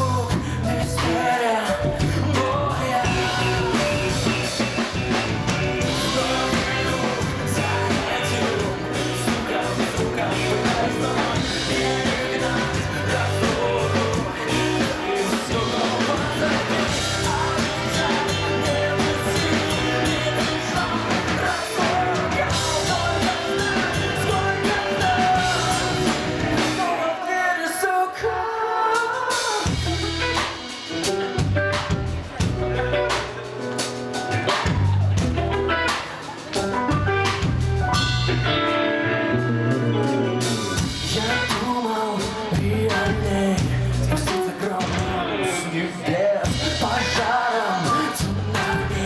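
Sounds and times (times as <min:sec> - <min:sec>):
person singing: 0:00.0 - 0:49.0
rock band playing live: 0:00.0 - 0:49.0.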